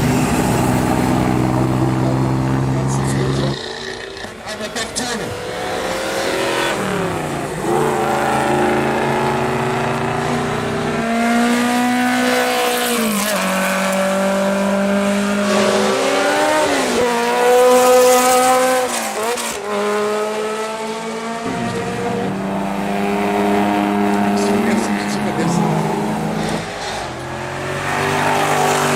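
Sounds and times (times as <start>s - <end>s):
racing car engines accelerating: 0.0s - 28.9s.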